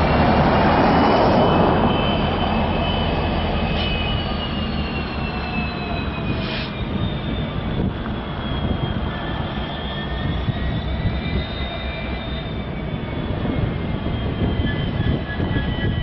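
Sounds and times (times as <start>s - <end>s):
high whining tones: 0.0s - 16.0s
locomotive engine rumble: 0.0s - 16.0s.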